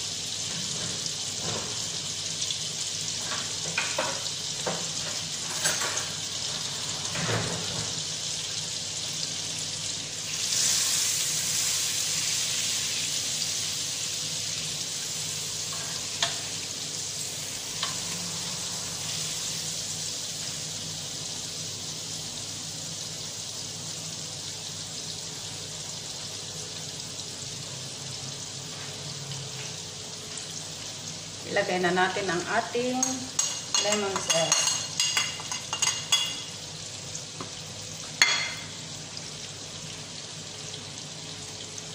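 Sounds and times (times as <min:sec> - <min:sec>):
butter sizzling in a frying pan: 0:00.0 - 0:41.9.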